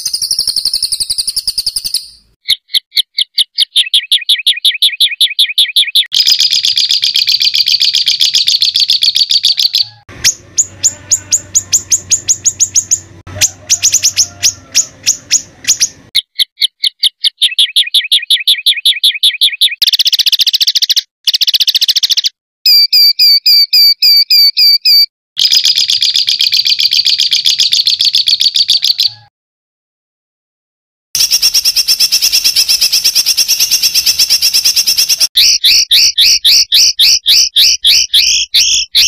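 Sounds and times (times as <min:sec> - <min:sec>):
songbird singing rapid sharp notes: 0:00.0 - 0:28.9, 0:31.2 - 0:39.0.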